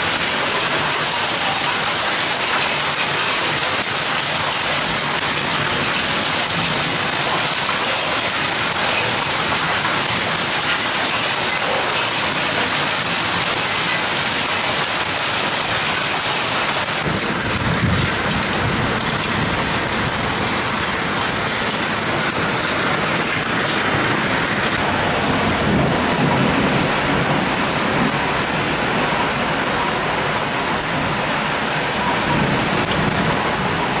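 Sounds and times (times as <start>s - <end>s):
heavy rain on pavement: 0.0s - 34.0s.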